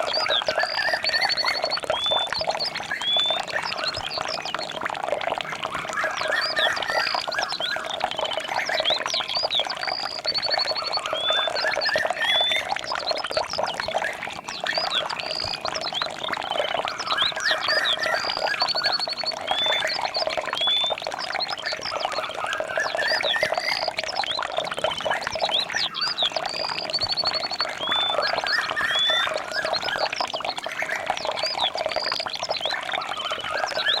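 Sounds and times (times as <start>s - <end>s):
animal calls chorus: 0.0s - 34.0s
birds chirping and trilling: 0.0s - 34.0s.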